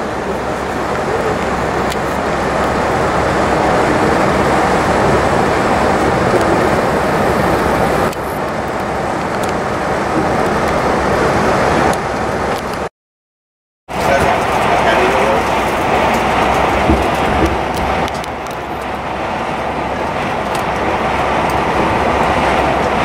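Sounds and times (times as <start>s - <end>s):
road and wind noise: 0.0s - 12.9s, 13.9s - 23.0s.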